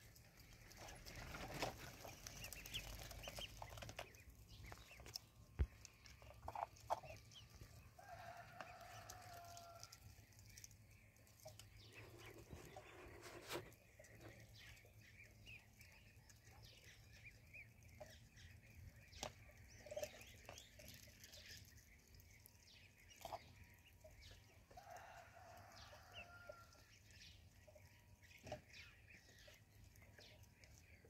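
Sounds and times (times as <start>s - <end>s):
ducklings peeping: 0.0s - 31.0s.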